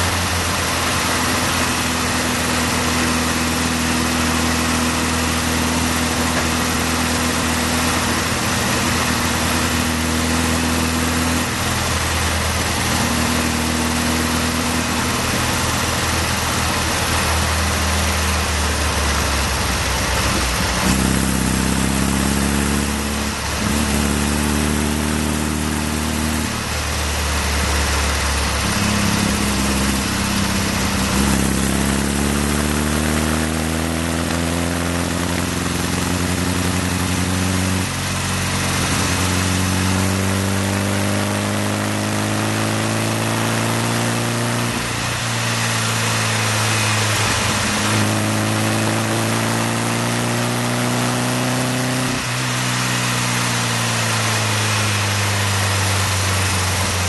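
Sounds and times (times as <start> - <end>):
car engine revving and shifting: 0.0 - 57.0
road noise: 0.0 - 57.0.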